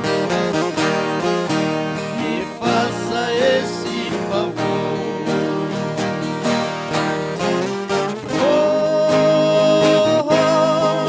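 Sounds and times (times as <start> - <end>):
viola and guitar playing: 0.0 - 11.0.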